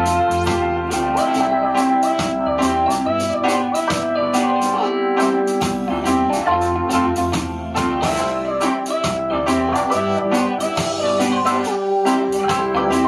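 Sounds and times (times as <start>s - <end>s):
song with steady beat and bass: 0.0s - 13.0s.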